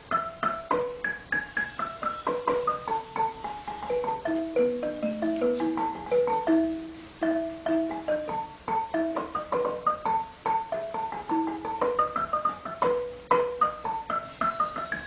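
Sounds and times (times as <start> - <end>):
quick melody of struck notes: 0.0 - 15.0.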